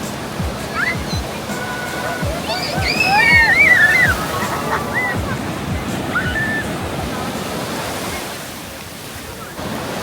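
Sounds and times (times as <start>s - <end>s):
ocean surf washing onto beach: 0.0s - 10.0s.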